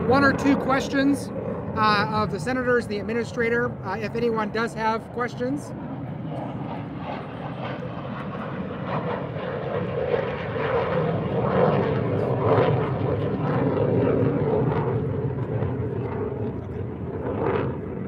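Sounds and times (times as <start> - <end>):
aircraft flying over: 0.0 - 18.0.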